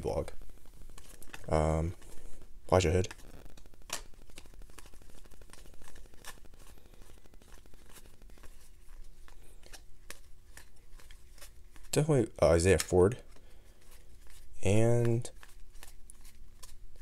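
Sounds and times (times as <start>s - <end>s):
trading cards flipped by hand: 0.2s - 17.0s.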